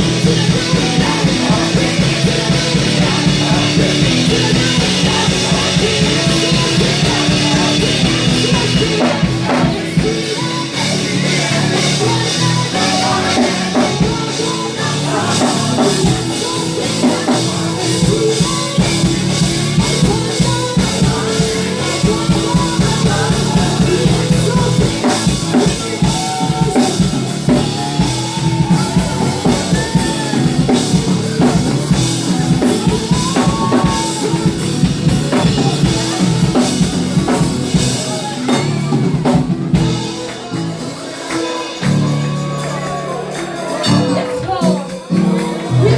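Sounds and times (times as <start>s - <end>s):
gospel band playing: 0.0s - 45.9s
person singing: 0.0s - 45.9s.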